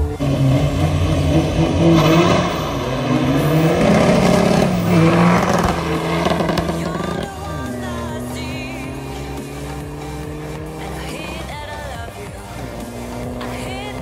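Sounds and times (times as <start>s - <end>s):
diesel engine accelerating: 0.0s - 14.0s.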